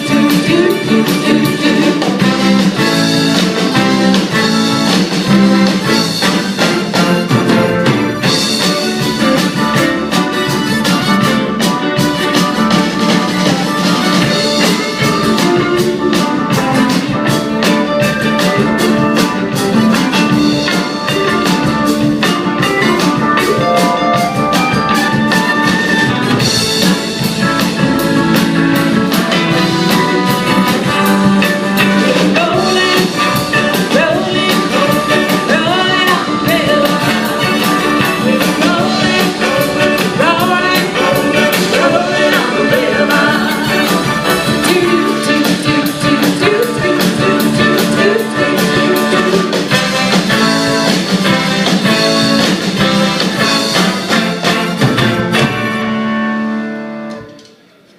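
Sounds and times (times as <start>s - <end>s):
drum kit beat: 0.0s - 57.5s
live band playing: 0.0s - 57.9s.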